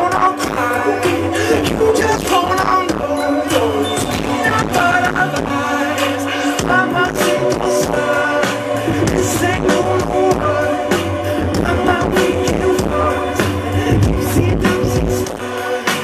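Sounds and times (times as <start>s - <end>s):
live pop band playing: 0.0s - 16.0s
person singing into microphone: 0.0s - 16.0s.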